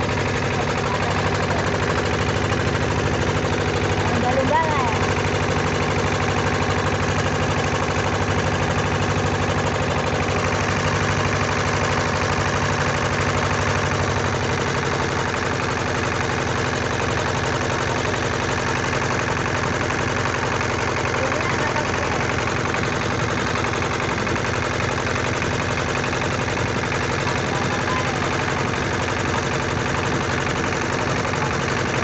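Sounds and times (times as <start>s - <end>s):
boat engine pulsing drone: 0.0s - 32.0s.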